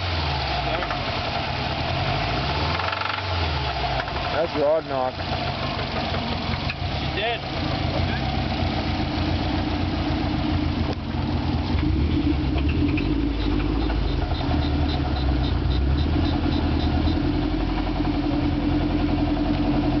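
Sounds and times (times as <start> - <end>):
engine idling with rod knock: 0.7 - 1.1, 2.7 - 20.0.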